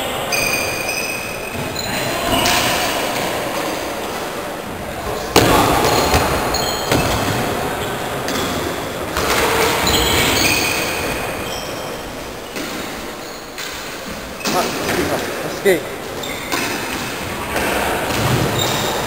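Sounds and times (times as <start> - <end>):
sneakers squeaking on wooden floor: 0.0 - 2.8, 5.0 - 19.0.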